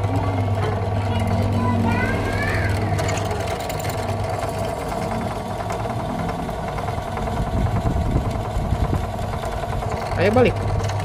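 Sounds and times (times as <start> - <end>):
drill press motor running: 0.0 - 11.0.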